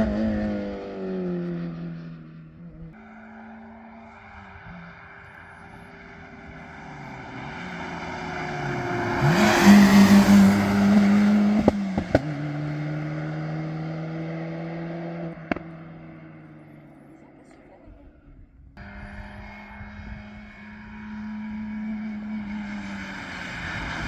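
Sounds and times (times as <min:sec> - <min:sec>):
rally car engine passing: 0:00.0 - 0:24.0.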